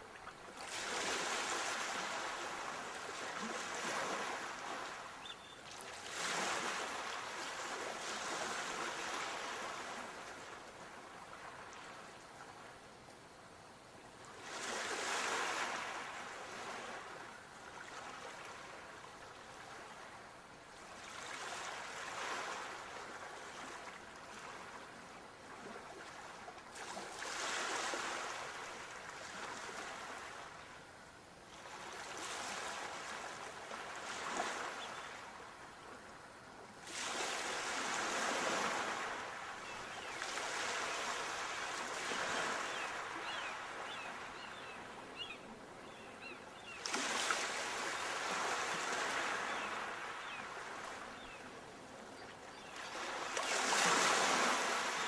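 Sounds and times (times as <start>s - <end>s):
sea waves breaking on shore: 0.0s - 12.6s, 14.4s - 30.9s, 31.5s - 36.2s, 36.8s - 55.0s.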